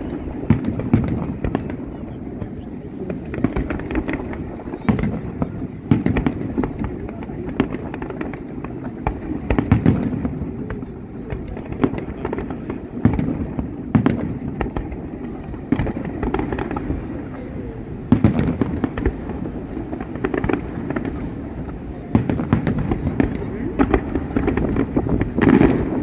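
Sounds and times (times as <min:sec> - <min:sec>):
crowd chatter: 0:00.0 - 0:26.0
fireworks bangs and crackles: 0:00.0 - 0:26.0.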